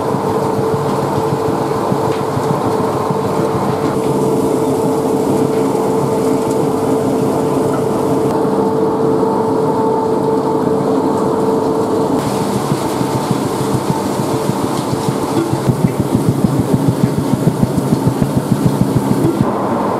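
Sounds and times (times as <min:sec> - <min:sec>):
machinery rumbling: 0:00.0 - 0:08.3, 0:12.1 - 0:19.9
constant hum: 0:00.0 - 0:19.9.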